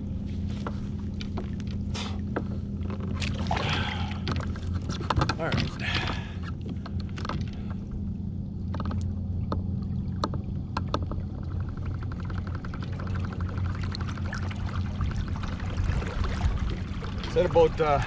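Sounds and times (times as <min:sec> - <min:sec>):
water sloshing against hull: 0:00.0 - 0:18.0.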